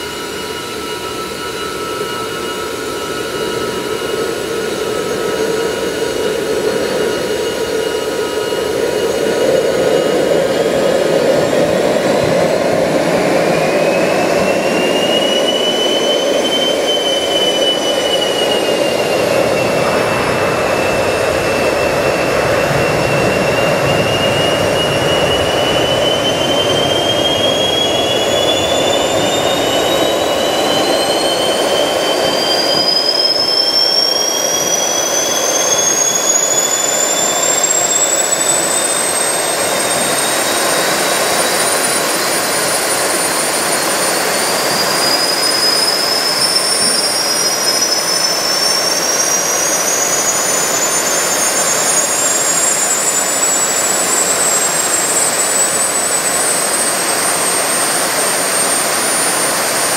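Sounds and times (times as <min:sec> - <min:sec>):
high turbine whines rising: 0:00.0 - 0:59.9
jet turbines roaring: 0:00.0 - 0:59.9.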